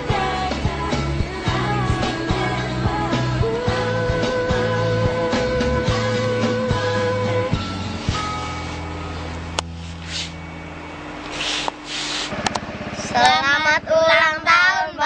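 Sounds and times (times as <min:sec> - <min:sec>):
engine pulsing: 0:00.0 - 0:15.0.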